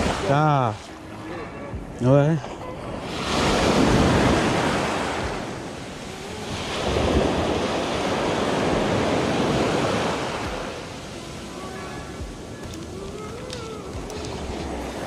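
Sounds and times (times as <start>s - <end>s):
waves washing up a beach: 0.0s - 15.0s.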